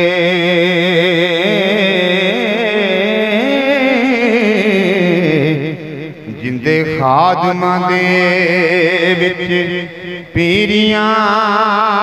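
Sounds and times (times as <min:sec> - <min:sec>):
man singing through microphone: 0:00.0 - 0:12.0.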